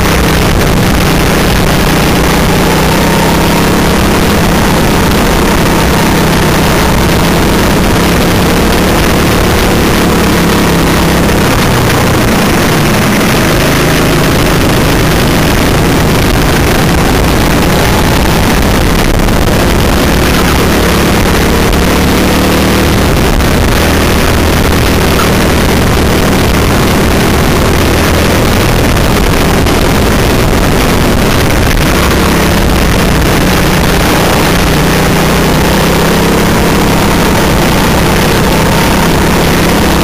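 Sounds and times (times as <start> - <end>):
go-kart engine racing: 0.0 - 40.0
rush of noise: 0.0 - 40.0.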